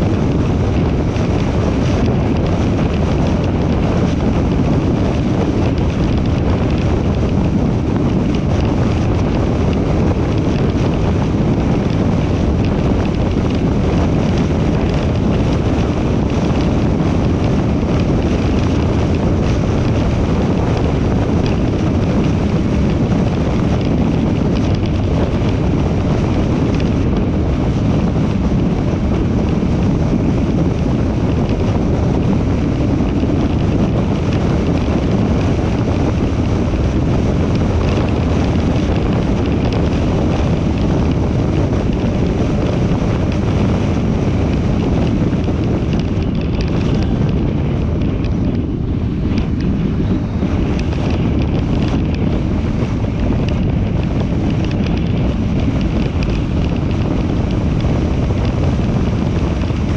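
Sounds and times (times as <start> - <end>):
car wind and road noise: 0.0 - 59.9
wind buffeting microphone: 0.0 - 59.9.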